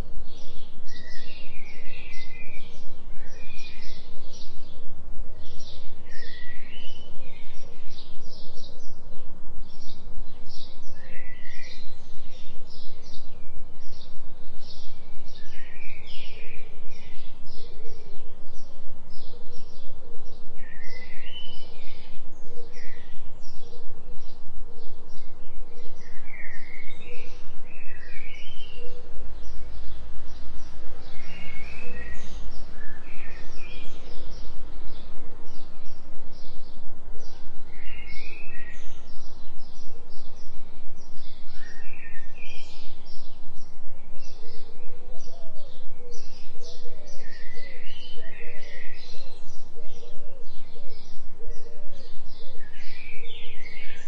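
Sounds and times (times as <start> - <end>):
forest birds chirping: 0.0 - 54.0
low drone of beat tones: 0.0 - 54.0.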